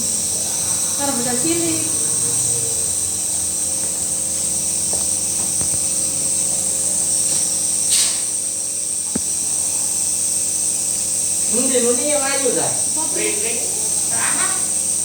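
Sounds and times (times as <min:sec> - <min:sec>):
constant high hiss: 0:00.0 - 0:15.0
nebulizer motor hum: 0:00.0 - 0:15.0.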